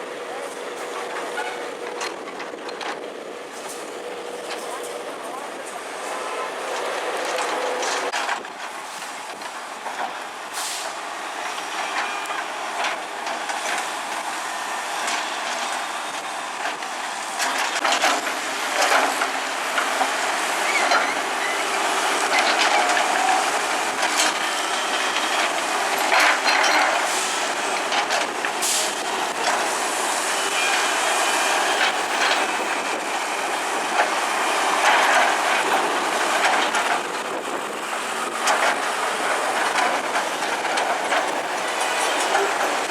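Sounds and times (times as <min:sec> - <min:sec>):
excavator machine noise: 0:00.0 - 0:42.9.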